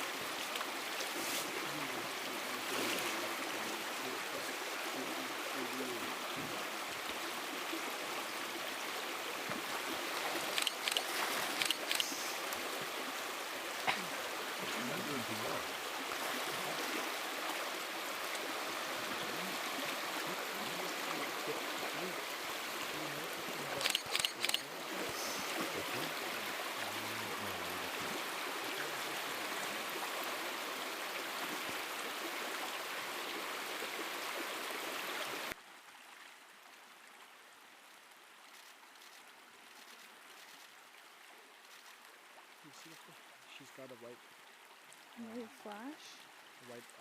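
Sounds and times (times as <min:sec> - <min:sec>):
stream running water: 0:00.0 - 0:47.0.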